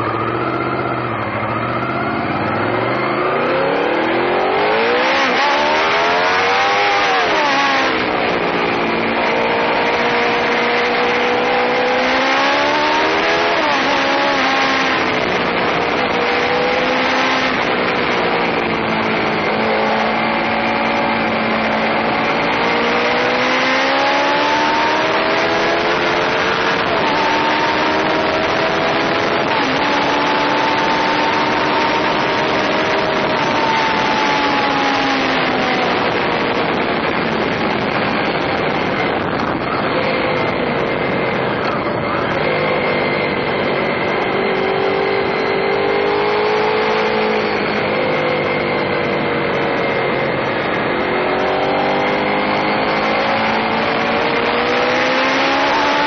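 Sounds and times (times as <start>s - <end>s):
motorcycle engine accelerating: 0.0s - 56.0s
wind on microphone: 0.0s - 56.0s.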